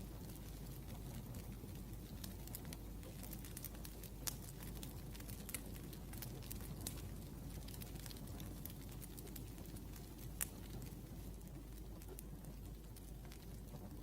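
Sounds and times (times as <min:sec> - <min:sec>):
low fire rumble: 0:00.0 - 0:14.0
wood fire snaps and pops: 0:00.0 - 0:14.0.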